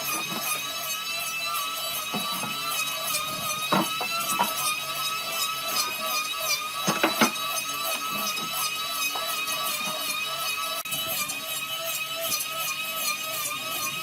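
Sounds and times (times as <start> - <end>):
power tool motor whining: 0.0 - 14.0.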